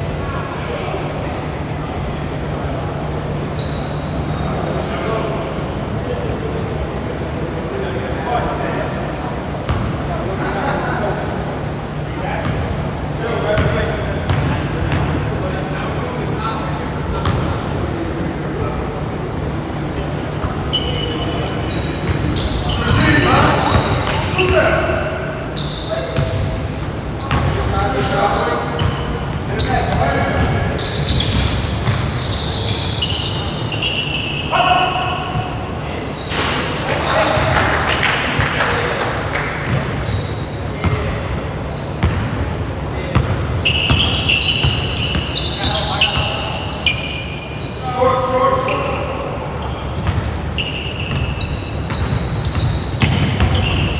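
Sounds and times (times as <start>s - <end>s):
voices murmuring: 0.0s - 53.9s
sneakers squeaking on court: 3.2s - 4.8s, 9.5s - 10.1s, 11.6s - 17.8s, 19.0s - 53.9s.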